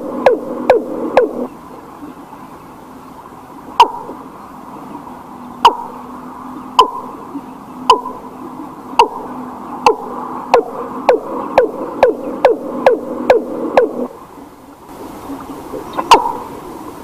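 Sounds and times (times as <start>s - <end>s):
bird hooting: 0.0s - 2.2s, 3.8s - 4.2s, 4.9s - 16.7s
faint steady hum: 0.0s - 17.0s.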